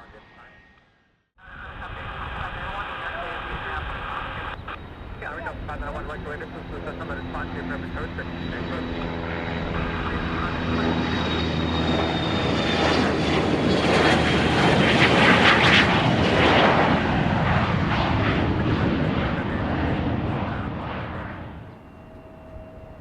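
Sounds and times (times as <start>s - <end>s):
airplane passing by: 1.4s - 23.0s.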